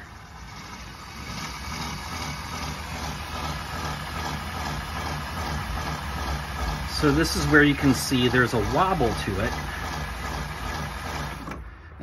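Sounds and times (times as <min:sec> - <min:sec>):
electric motor humming: 0:00.0 - 0:11.7.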